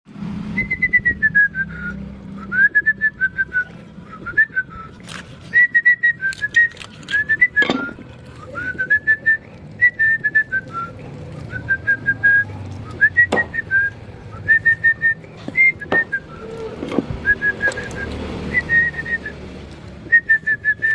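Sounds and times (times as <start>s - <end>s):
person whistling a tune: 0.6s - 16.6s, 17.2s - 19.4s, 20.1s - 20.9s.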